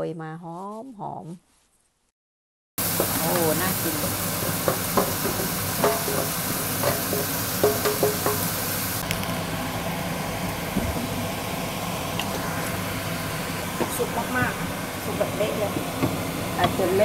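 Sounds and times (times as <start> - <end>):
vegetables sizzling in oil: 2.8 - 17.0.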